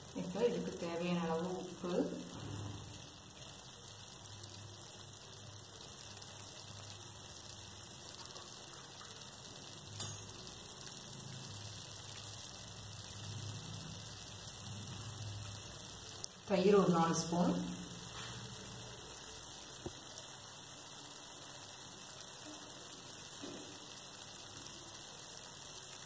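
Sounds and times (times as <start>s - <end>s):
masala sizzling in a pan: 0.0s - 26.0s.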